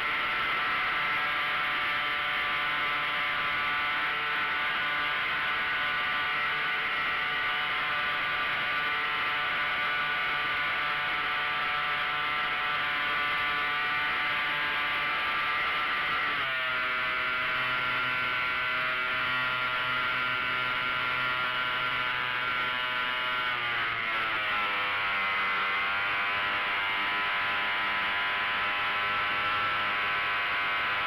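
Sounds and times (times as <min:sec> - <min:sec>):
model airplane motor buzzing: 0:00.0 - 0:31.0.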